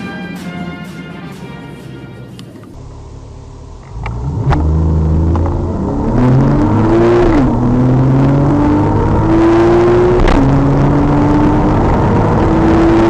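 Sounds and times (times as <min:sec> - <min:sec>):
car engine accelerating hard: 0:02.4 - 0:13.0.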